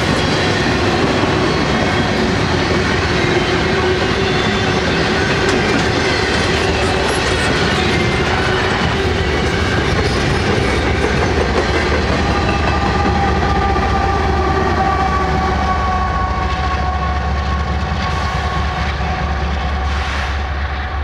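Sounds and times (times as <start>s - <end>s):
locomotive two-tone whine: 0.0s - 21.0s.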